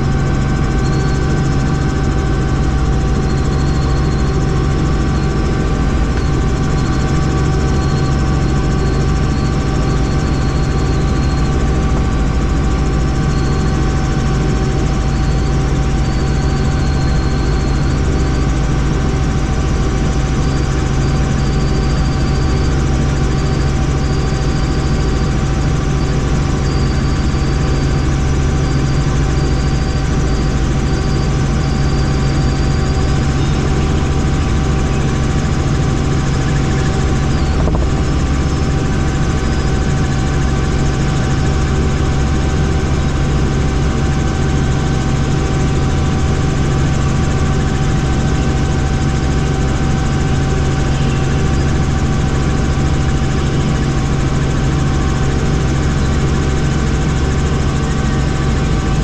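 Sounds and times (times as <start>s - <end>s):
constant whine: 0.0s - 59.0s
helicopter rotor and engine drone: 0.0s - 59.0s.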